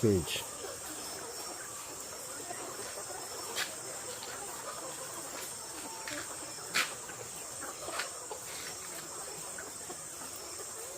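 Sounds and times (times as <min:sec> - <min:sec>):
caged poultry: 0:00.0 - 0:10.9.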